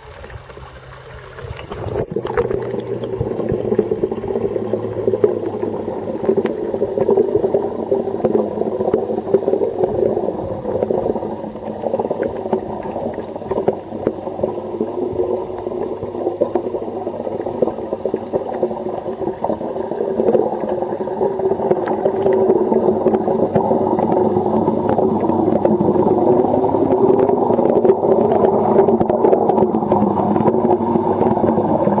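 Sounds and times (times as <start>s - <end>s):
muffled underwater rushing and gurgling: 0.0s - 32.0s.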